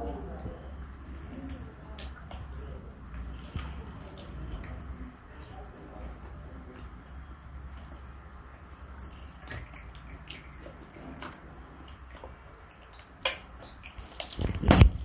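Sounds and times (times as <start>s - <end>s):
low steady hum: 0.0s - 15.0s
child chewing and lip smacking: 0.5s - 15.0s.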